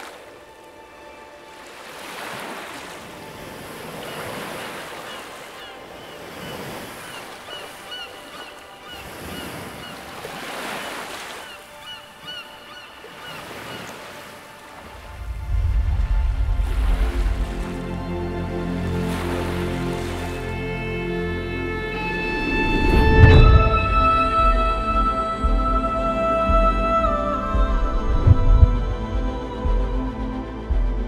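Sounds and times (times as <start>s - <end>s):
sea waves washing in: 0.0s - 29.1s.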